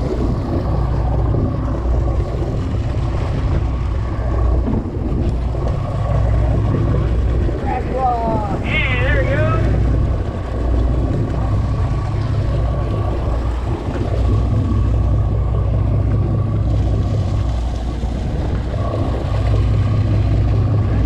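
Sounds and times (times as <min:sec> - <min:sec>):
boat engine rumbling: 0:00.0 - 0:21.0
thin steady whine: 0:00.0 - 0:21.0.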